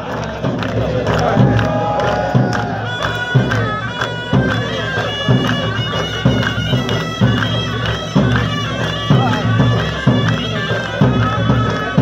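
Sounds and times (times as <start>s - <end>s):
deep drum beats: 0.0s - 12.0s
reedy wind instrument melody: 0.0s - 12.0s.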